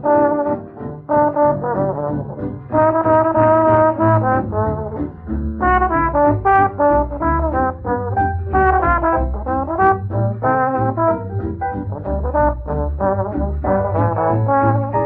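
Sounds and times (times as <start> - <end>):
brass horns playing melody: 0.0 - 15.0
deep bass part: 0.0 - 15.0.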